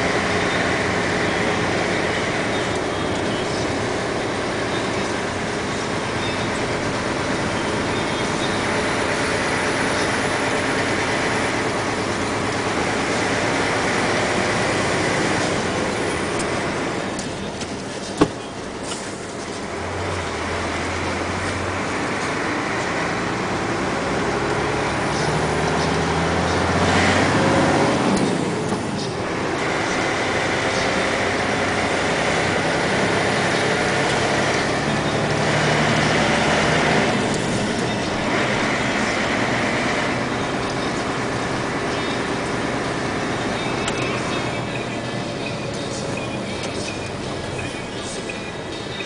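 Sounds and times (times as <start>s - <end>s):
vehicle engine and tyre noise: 0.0s - 49.0s.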